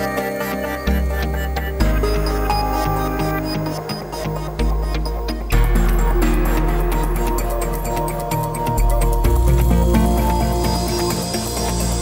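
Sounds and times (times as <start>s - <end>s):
instrumental music with deep bass: 0.0s - 12.0s.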